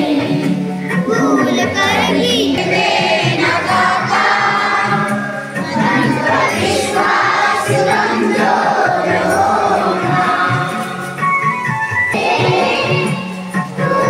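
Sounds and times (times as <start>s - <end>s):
group singing a prayer: 0.0s - 11.4s, 12.1s - 14.0s.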